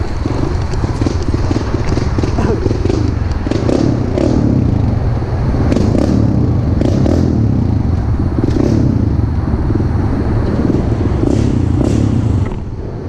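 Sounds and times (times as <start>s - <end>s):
motorbike engine running: 0.0s - 13.0s.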